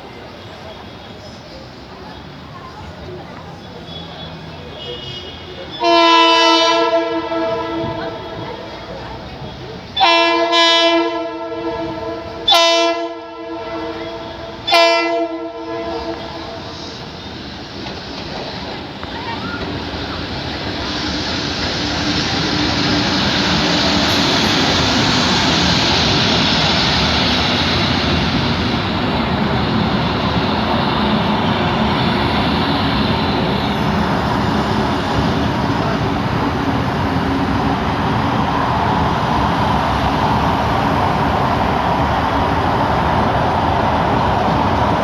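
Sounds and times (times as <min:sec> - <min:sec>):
train rumbling on track: 0:00.0 - 0:45.0.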